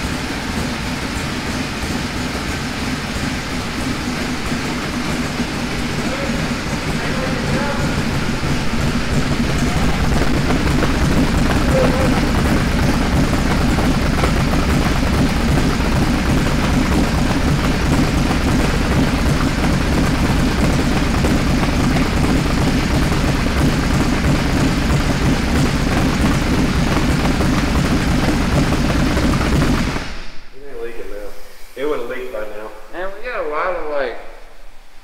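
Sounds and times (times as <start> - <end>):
truck engine idling: 0.0 - 30.5.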